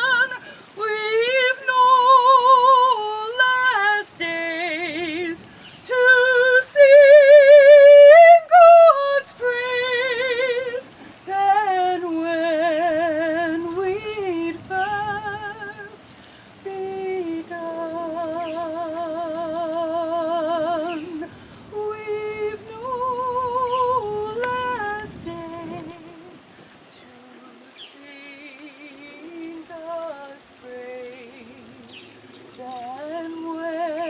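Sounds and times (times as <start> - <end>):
woman singing unaccompanied: 0.0 - 34.0.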